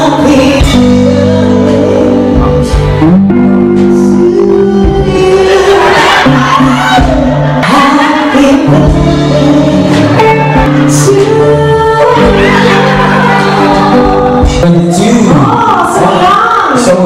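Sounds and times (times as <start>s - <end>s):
woman singing into a microphone: 0.0s - 14.6s
drums: 0.0s - 17.0s
electric guitar: 0.0s - 17.0s.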